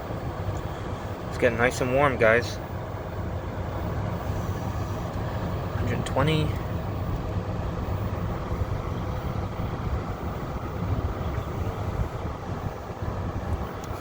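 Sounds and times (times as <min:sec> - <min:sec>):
air conditioner blower rushing: 0:00.0 - 0:14.0
faint steady hum: 0:00.0 - 0:14.0.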